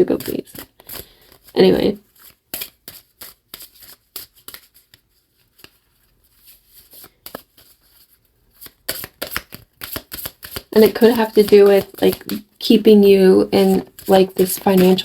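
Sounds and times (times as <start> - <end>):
cards or paper rustling: 0.0 - 15.0.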